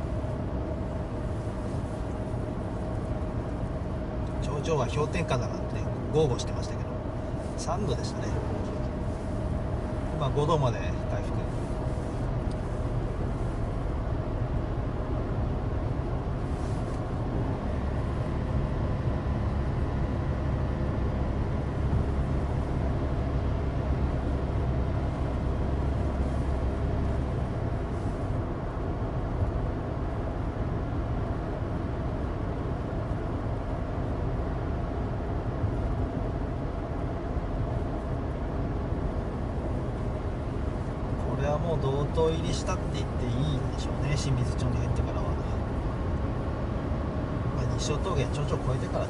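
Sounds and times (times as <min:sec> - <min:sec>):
car engine droning: 0:00.0 - 0:49.0.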